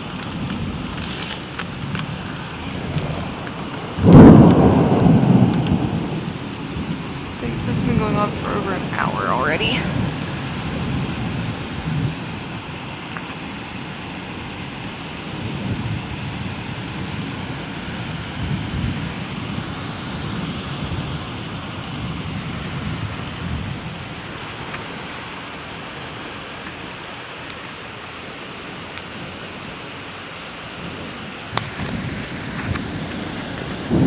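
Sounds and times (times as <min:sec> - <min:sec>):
thunder rumbling: 0:00.0 - 0:26.4, 0:30.7 - 0:34.0.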